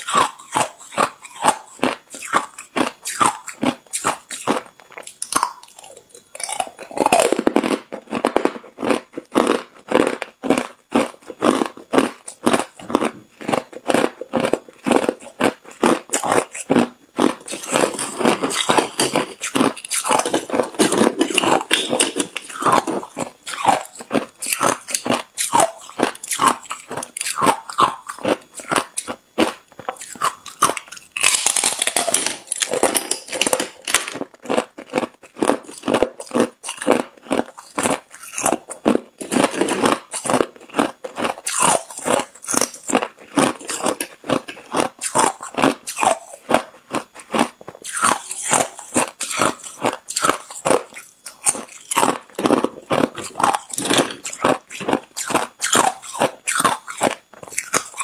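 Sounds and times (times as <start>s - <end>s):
chewing crunching ice: 0.0s - 58.0s.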